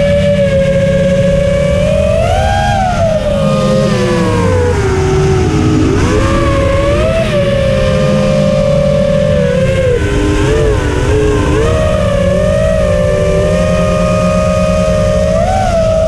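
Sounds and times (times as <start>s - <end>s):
quadcopter motors whining: 0.0s - 16.0s
rough wind rumble: 0.0s - 16.0s.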